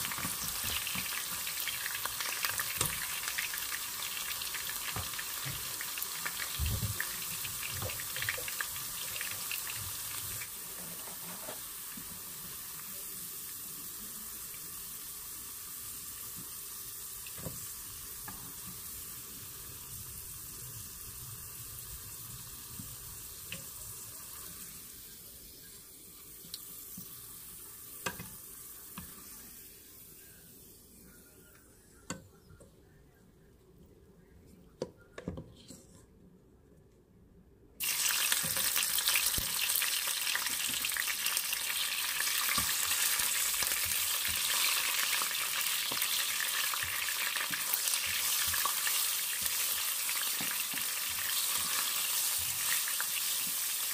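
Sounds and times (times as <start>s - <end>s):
carrots sizzling in oil: 0.0s - 30.7s, 37.8s - 53.9s.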